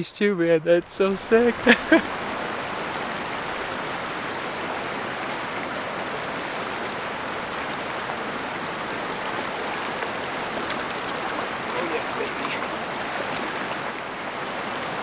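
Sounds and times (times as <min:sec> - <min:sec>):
creek water rushing over rocks: 0:00.8 - 0:15.0.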